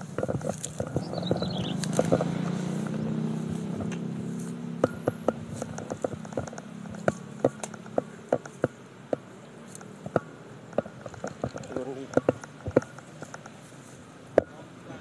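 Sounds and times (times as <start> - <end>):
sharp clicks: 0.0 - 4.1, 4.8 - 14.5
motor engine running: 0.0 - 15.0.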